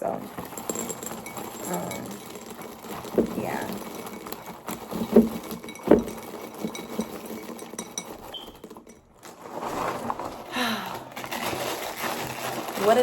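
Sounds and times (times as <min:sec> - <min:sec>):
small objects clicking and clinking: 0:00.0 - 0:13.0.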